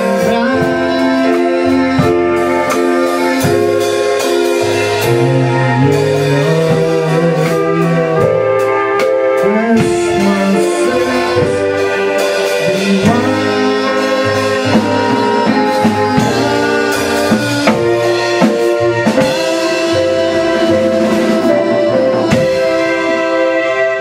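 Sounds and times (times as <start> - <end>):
drum kit beat: 0.0 - 24.0
keyboard: 0.0 - 24.0
woodwind melody notes: 0.0 - 24.0.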